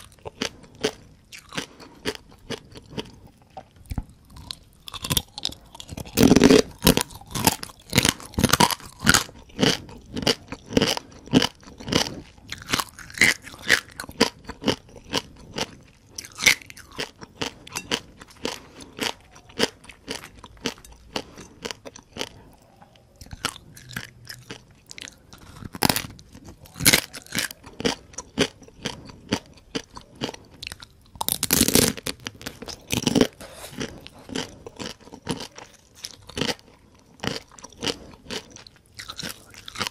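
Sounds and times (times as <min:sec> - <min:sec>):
crunchy chewing of fried crabs: 0:00.0 - 0:39.9.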